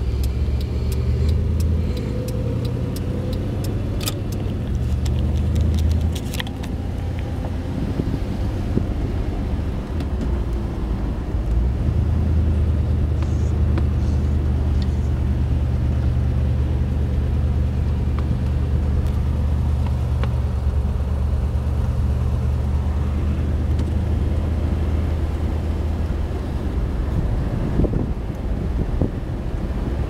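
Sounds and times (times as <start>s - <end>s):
car engine cruising: 0.0s - 30.0s.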